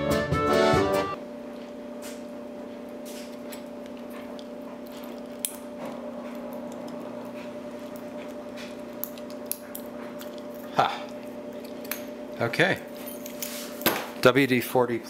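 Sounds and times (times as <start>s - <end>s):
steady low hum: 1.1s - 15.0s.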